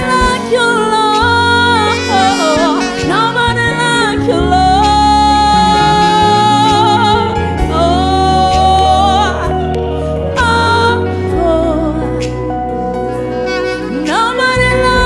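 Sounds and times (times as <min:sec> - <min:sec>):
person singing gospel: 0:00.0 - 0:15.0
sustained accompaniment chords: 0:00.5 - 0:15.0.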